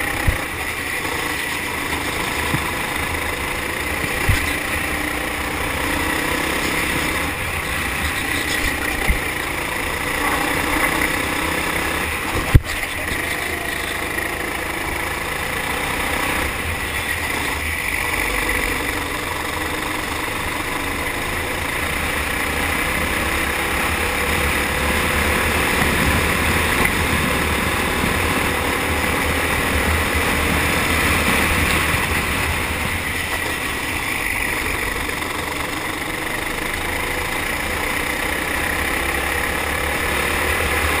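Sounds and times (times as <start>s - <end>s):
kart engine running: 0.0s - 41.0s.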